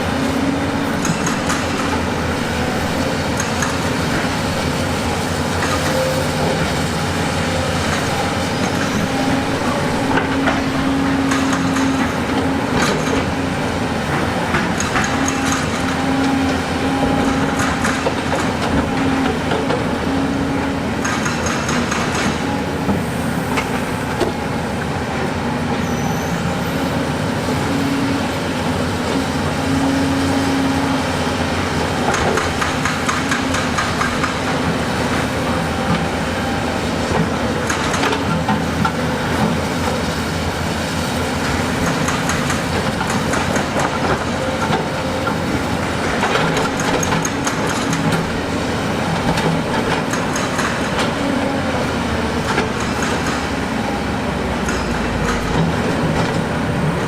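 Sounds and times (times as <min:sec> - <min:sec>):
diesel construction machine running: 0:00.0 - 0:57.0.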